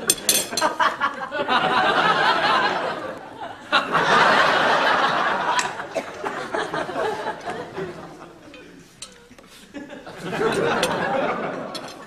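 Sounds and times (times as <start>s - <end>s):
studio audience laughing: 0.0s - 12.0s.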